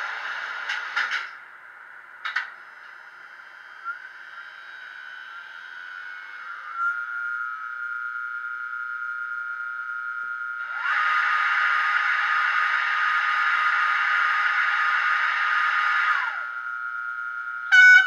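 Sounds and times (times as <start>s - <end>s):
rising whine into high hum: 0.0s - 18.0s.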